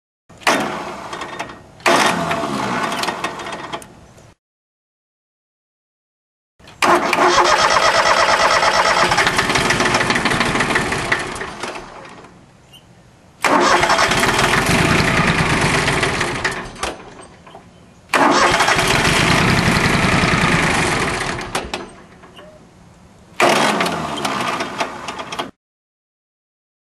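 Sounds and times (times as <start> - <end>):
diesel engine cranking: 0.3 - 4.1, 6.6 - 22.8, 23.4 - 25.6.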